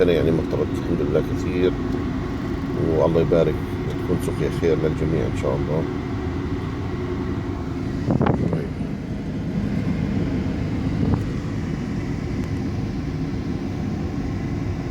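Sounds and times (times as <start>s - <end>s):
engine rumbling: 0.0s - 14.9s.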